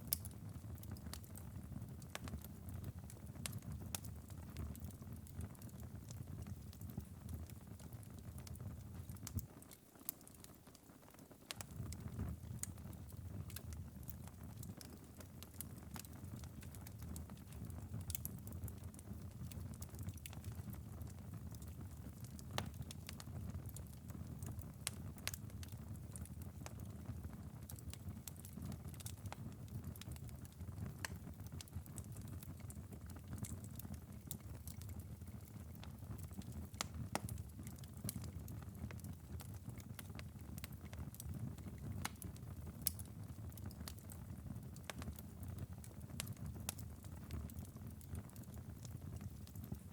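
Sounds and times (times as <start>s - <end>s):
embers crackling and popping: 0.0s - 49.9s.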